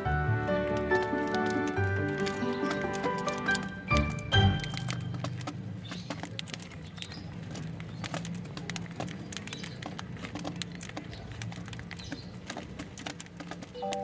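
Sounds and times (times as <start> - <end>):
birds clicking and tapping: 0.0 - 14.0.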